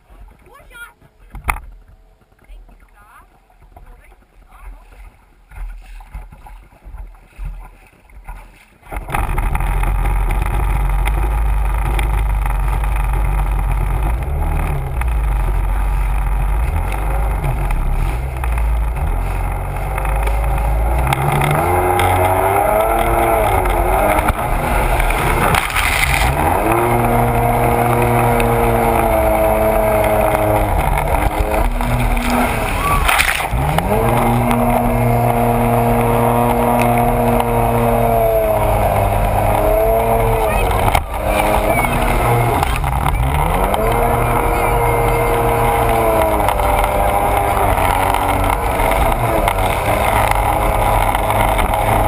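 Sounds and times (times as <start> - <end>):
watercraft engine revving: 4.6 - 52.0
water spray rushing: 9.2 - 52.0.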